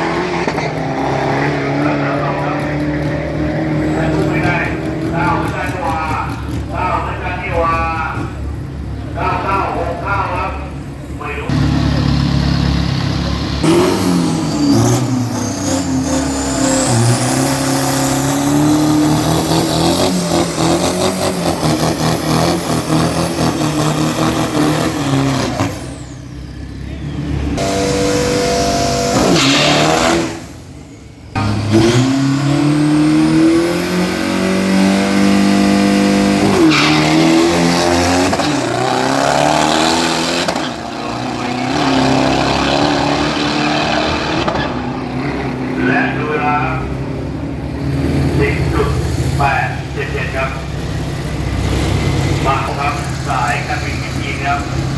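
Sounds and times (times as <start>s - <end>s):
racing engine revving: 0.0s - 54.9s.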